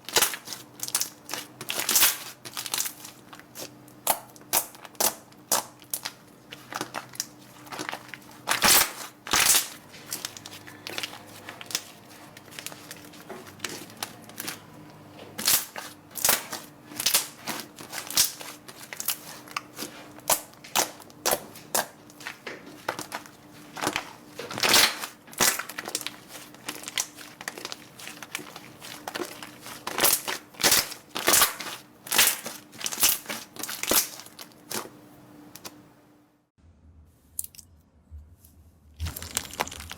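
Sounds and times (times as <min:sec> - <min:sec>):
slime crunching and crackling: 0:00.0 - 0:35.0, 0:39.0 - 0:39.9.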